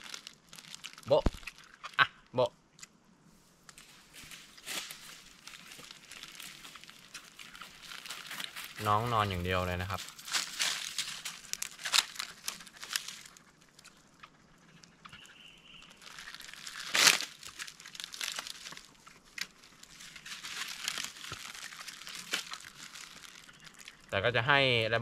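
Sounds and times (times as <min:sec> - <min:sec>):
dry crinkling and rustling: 0:00.0 - 0:02.0, 0:03.7 - 0:24.2.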